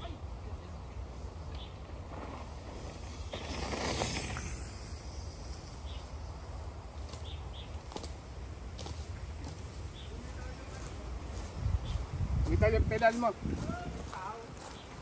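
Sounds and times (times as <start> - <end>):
bike rolling on trail: 0.2 - 15.0.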